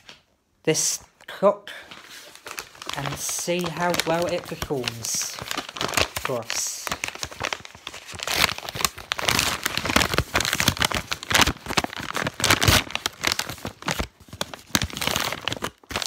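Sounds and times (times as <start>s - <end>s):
plastic bag crinkling: 1.9s - 16.0s.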